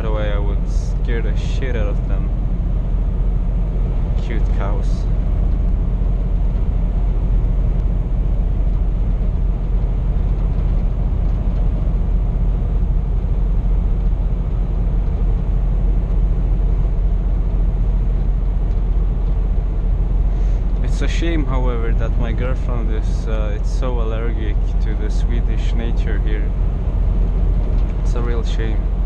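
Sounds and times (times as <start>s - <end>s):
road and tyre noise: 0.0s - 29.0s
truck diesel engine drone: 0.0s - 29.0s.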